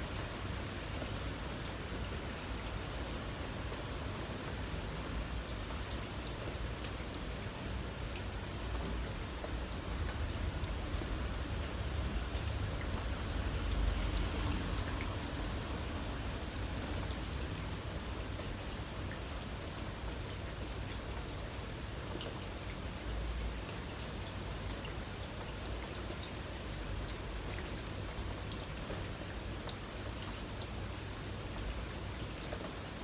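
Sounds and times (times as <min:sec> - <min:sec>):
light rain falling: 0:00.0 - 0:33.0
small drips: 0:00.1 - 0:33.0.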